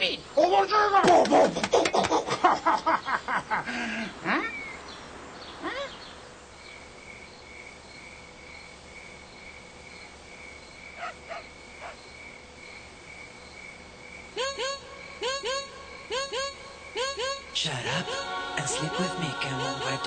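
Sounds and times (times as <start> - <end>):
cricket chirping: 2.6 - 20.0.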